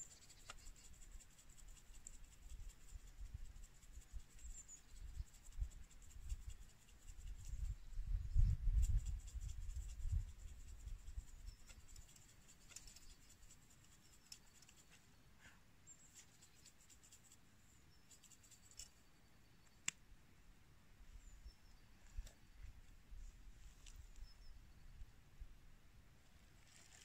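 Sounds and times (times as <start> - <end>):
faint high bird chirps: 0.0 - 19.9, 21.0 - 22.9, 23.7 - 25.2.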